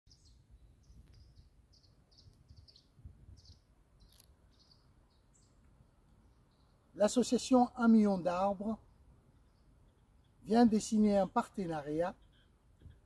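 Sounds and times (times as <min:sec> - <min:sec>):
faint bird chirps: 0:00.1 - 0:07.0, 0:08.8 - 0:13.0.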